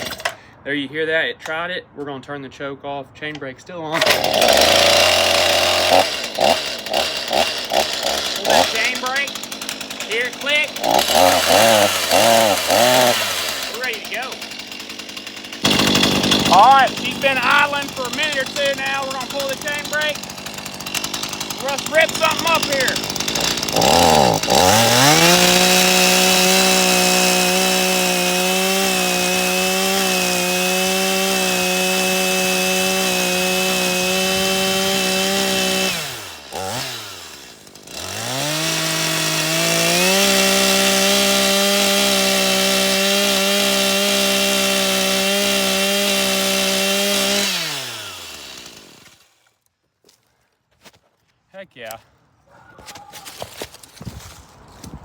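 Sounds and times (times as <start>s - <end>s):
chainsaw revving and cutting wood: 0.0s - 0.4s, 3.9s - 49.6s.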